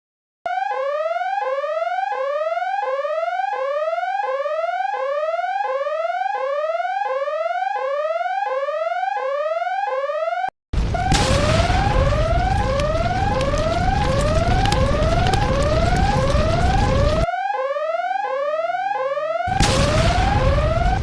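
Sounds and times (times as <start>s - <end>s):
whooping electronic siren: 0.5s - 21.0s.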